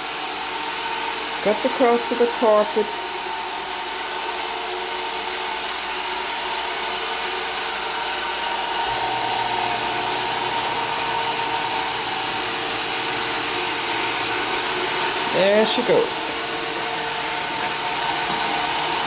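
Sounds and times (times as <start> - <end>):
robot vacuum motor whir: 0.0 - 19.0.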